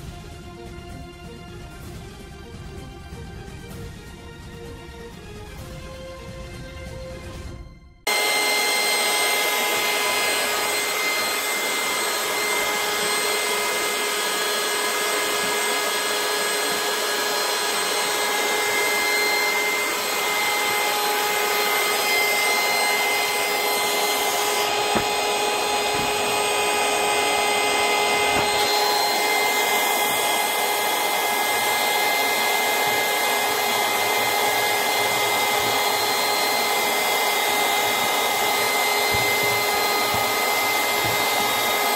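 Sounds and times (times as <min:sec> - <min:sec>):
air pump motor whine: 0:08.1 - 0:41.9.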